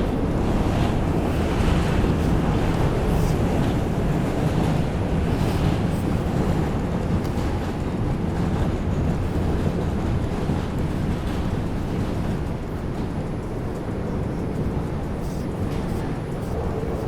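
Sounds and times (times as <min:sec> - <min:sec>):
subway car rumble and rail noise: 0:00.0 - 0:17.0.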